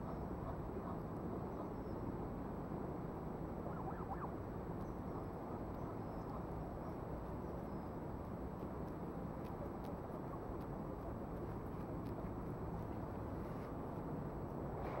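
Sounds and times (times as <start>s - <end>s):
low outdoor ambient rumble: 0.0s - 15.0s.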